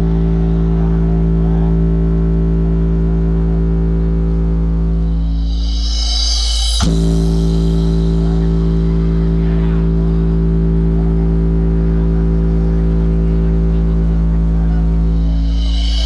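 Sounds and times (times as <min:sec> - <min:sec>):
deep bass test tone: 0:00.0 - 0:16.0.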